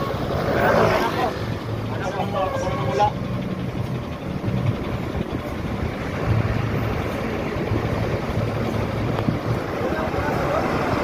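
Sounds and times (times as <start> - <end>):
bus engine humming: 0.0 - 11.0
road and wind noise: 0.0 - 11.0.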